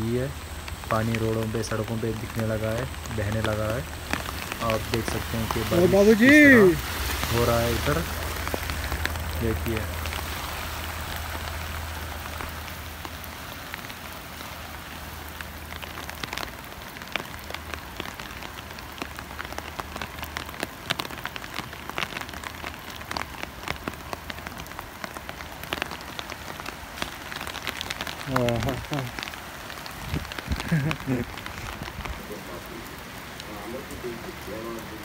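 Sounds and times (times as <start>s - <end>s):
rain falling on wet street: 0.0s - 35.0s
raindrops ticking close by: 0.0s - 35.0s.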